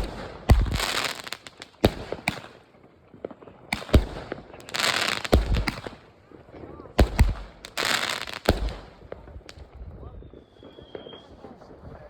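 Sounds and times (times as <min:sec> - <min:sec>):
fireworks banging: 0:00.0 - 0:12.0
fireworks crackling: 0:00.0 - 0:12.0.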